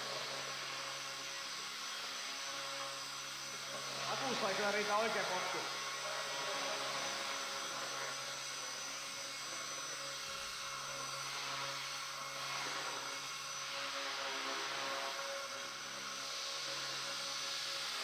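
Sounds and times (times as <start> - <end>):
rc helicopter rotor whine: 0.0 - 18.0.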